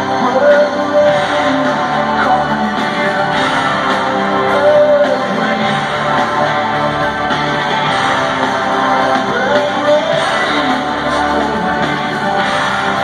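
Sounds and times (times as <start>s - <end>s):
distant live rock band: 0.0s - 13.0s
person singing: 0.0s - 13.0s.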